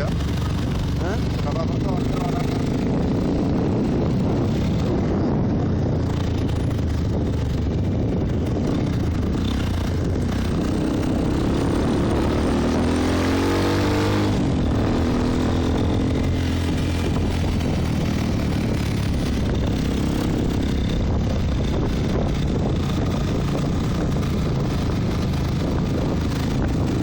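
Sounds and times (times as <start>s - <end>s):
motorcycle engine running: 0.0s - 27.0s
rush of noise: 0.0s - 27.0s.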